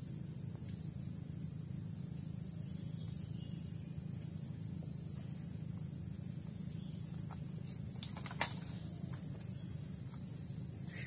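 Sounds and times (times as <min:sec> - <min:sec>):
insects droning: 0:00.0 - 0:11.0
low background rumble: 0:00.0 - 0:11.0.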